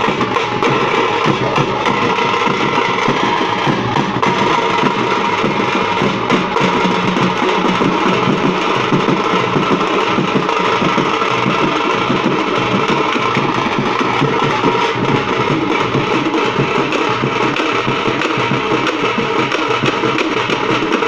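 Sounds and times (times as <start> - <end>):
drum band playing: 0.0 - 21.0.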